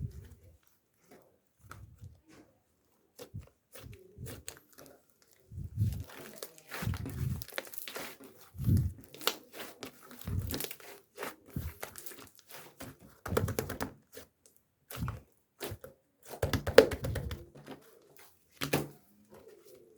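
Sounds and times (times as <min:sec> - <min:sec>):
crinkling and rustling: 0:00.0 - 0:19.9.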